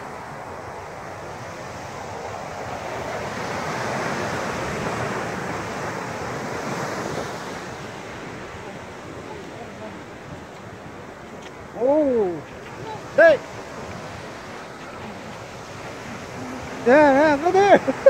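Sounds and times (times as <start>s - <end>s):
ocean surf breaking: 0.0s - 18.0s
wind on microphone: 0.0s - 18.0s.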